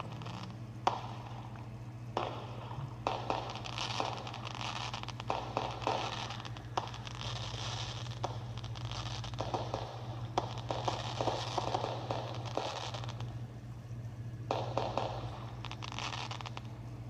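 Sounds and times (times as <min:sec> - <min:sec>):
small fireworks crackling: 0:00.0 - 0:17.0
steady low hum: 0:00.0 - 0:17.0.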